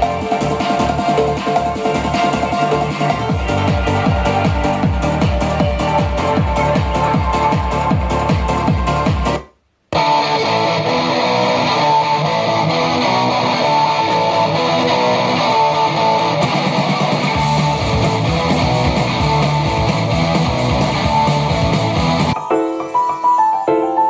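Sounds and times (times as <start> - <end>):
guitar music through speaker: 0.0 - 24.0.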